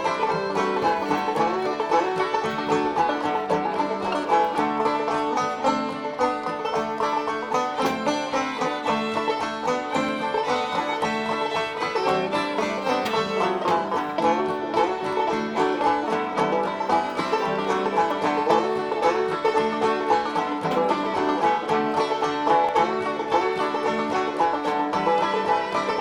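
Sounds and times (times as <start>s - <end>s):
string-band music with banjo: 0.0s - 26.0s.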